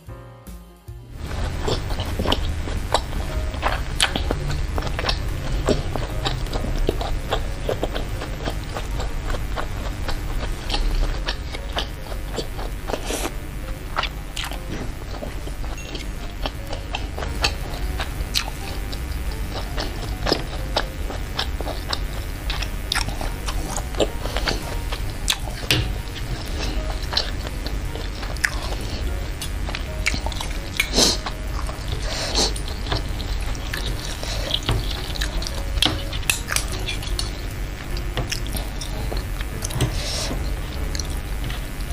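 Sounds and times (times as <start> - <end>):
wet chewing: 1.2 - 41.9.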